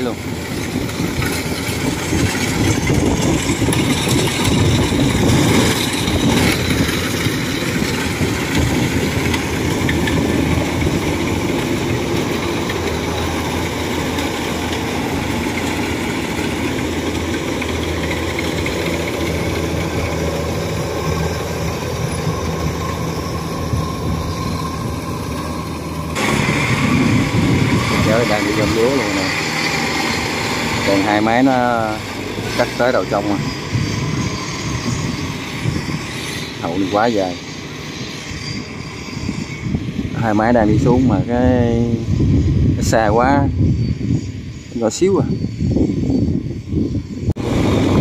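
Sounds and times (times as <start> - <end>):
small tracked vehicle engine: 0.0 - 42.7, 43.4 - 48.0
combine harvester diesel engine: 0.0 - 45.9, 46.5 - 48.0.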